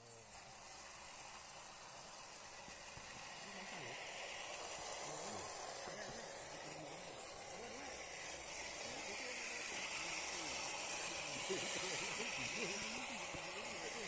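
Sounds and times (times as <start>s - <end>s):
faint voices: 0.0s - 14.0s
small electric motor whirring: 0.0s - 14.0s.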